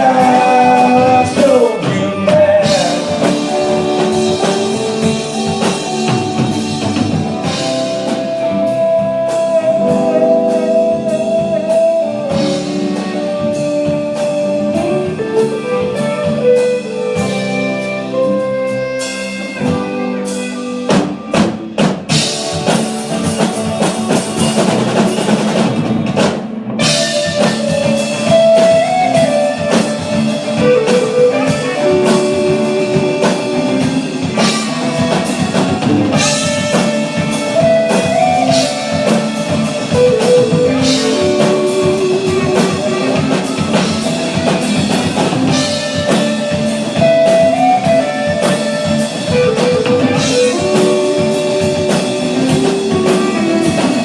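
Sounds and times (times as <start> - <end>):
bass: 0.0 - 54.0
drum kit: 0.0 - 54.0
electric guitar: 0.0 - 54.0
lead melody line: 0.0 - 54.0.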